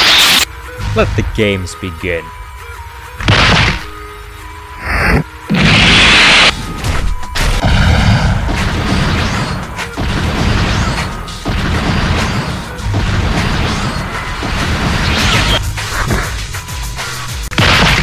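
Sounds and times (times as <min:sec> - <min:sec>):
background music: 0:00.4 - 0:18.0.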